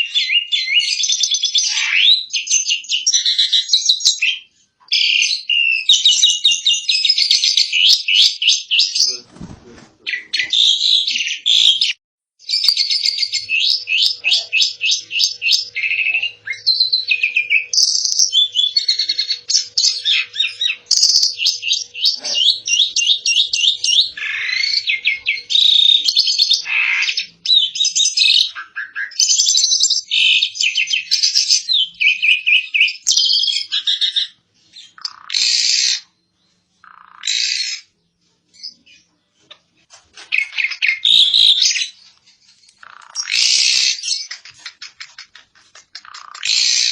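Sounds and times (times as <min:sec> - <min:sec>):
starling singing with trills: 0:00.0 - 0:46.9.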